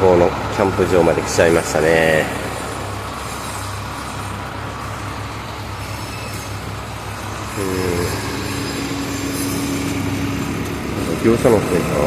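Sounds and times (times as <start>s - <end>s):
road noise: 0.0s - 12.0s
steady higher tone: 0.0s - 12.0s
vehicle engine humming: 0.0s - 12.0s.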